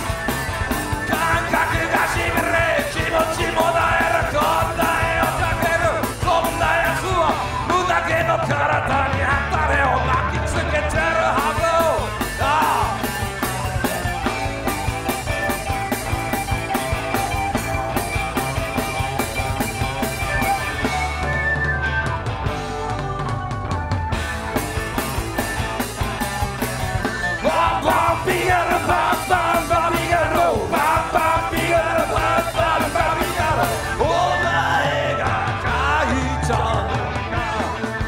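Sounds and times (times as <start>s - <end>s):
live rock band playing: 0.0s - 38.0s
wavering lead guitar line: 0.0s - 38.0s.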